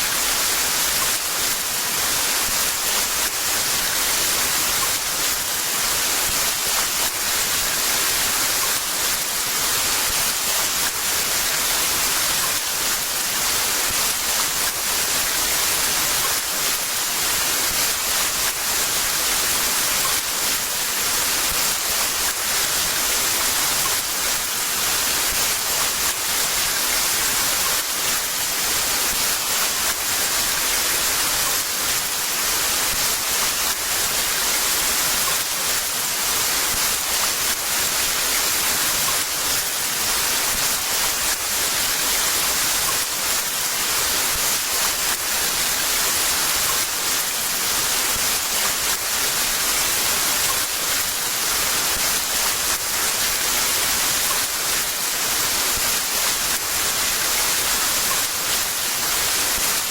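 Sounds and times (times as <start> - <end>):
heavy rain hiss: 0.0 - 59.9.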